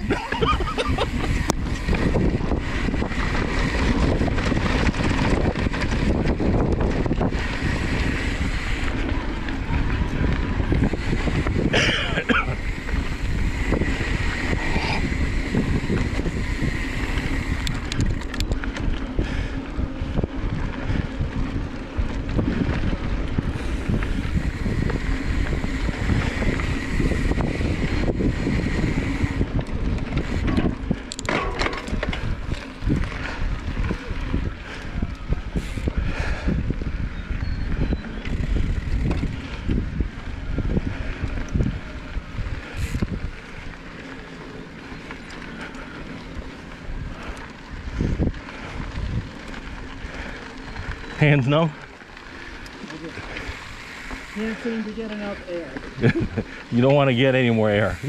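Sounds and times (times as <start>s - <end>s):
mountain bike rumbling and rattling: 0.0s - 58.0s
wind buffeting microphone: 0.0s - 58.0s.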